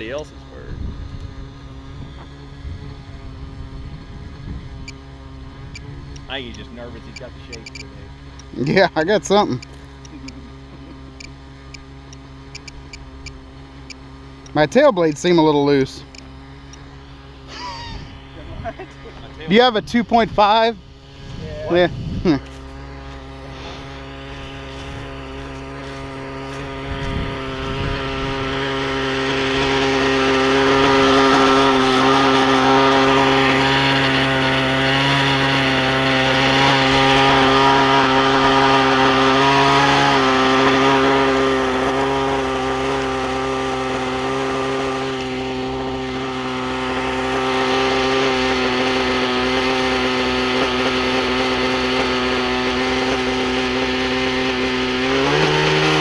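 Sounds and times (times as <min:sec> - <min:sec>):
model helicopter engine and rotors: 0:00.0 - 0:56.0.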